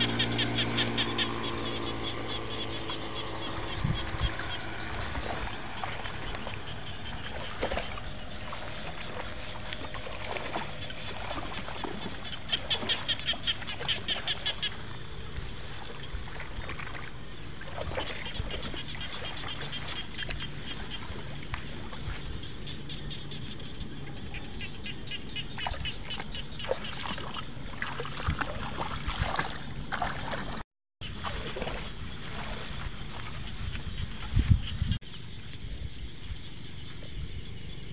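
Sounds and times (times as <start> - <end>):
frogs calling: 0.0 - 37.9
high-pitched insect whine: 0.0 - 37.9.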